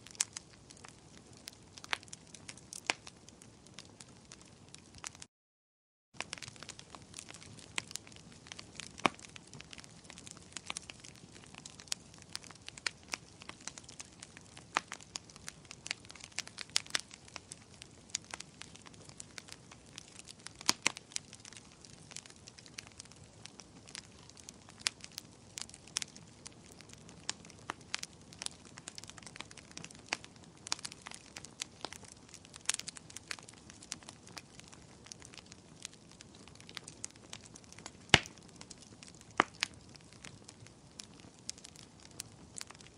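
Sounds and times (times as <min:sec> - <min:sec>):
wood fire crackling: 0:00.0 - 0:05.3, 0:06.2 - 0:42.9.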